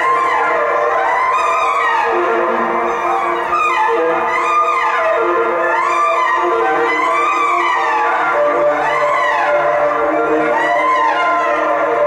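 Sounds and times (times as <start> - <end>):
saxophone held tones: 0.0 - 12.0.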